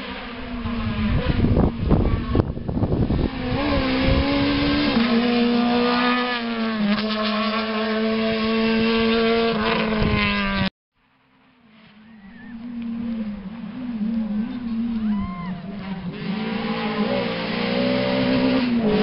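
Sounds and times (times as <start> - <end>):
rally car engine at high revs: 0.0 - 10.7, 12.6 - 19.0.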